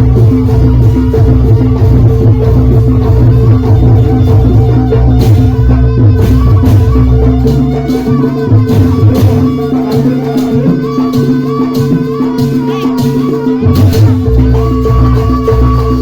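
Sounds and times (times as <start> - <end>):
gamelan ensemble with drums: 0.0 - 16.0.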